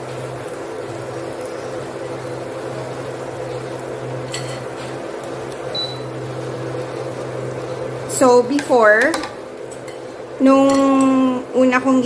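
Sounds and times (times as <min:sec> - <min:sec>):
onions sizzling in frying pan: 0:00.0 - 0:12.0.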